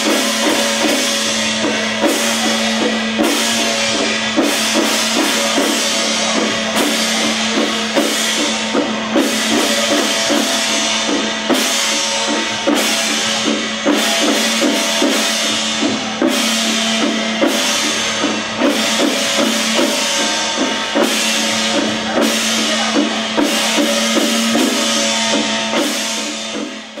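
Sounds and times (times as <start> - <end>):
cymbal crashes: 0.0 - 27.0
drums beating: 0.0 - 27.0.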